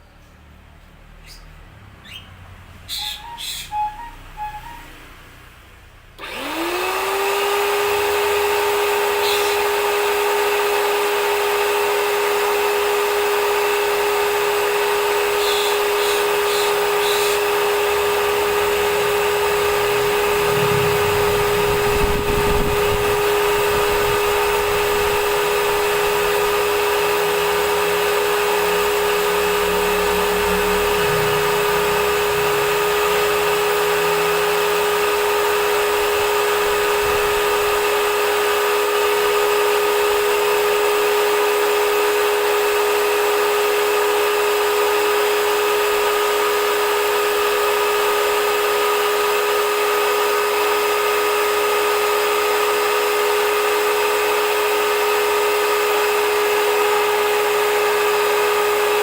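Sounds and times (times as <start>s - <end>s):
pressure washer motor humming: 6.2s - 59.0s.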